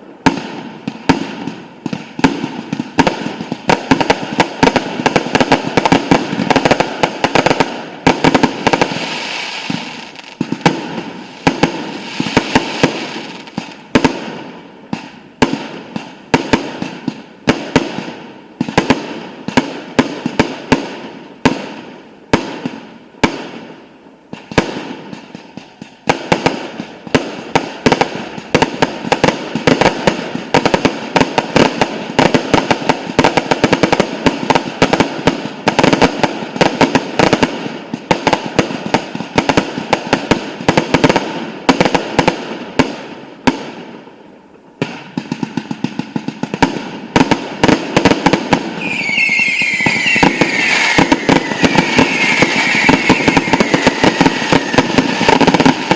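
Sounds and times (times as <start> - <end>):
fireworks bangs and crackles: 0.0 - 55.9
whistling fireworks falling in pitch: 0.0 - 55.9.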